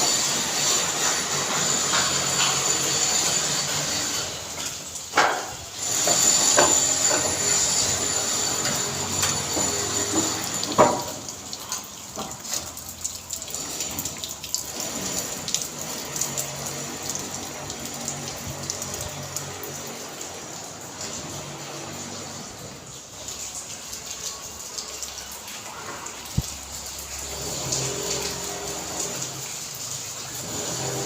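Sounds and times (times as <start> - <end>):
rain with running water: 0.0 - 31.0.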